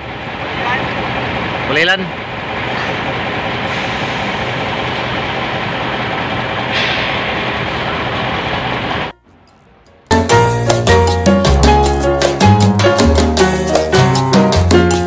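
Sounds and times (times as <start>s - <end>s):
diesel engine idling: 0.0s - 14.1s.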